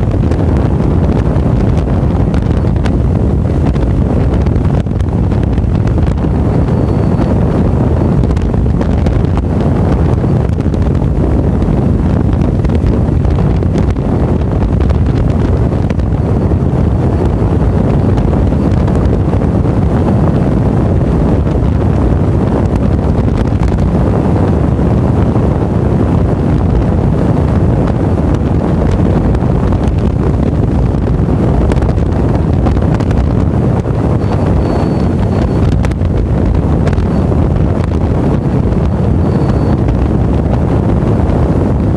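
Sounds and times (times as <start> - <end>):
motorcycle running: 0.0 - 41.9
wind buffeting microphone: 0.0 - 41.9.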